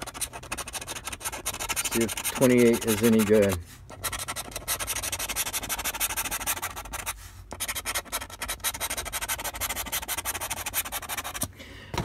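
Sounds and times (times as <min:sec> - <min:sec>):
lottery ticket being scratched: 0:00.0 - 0:11.5.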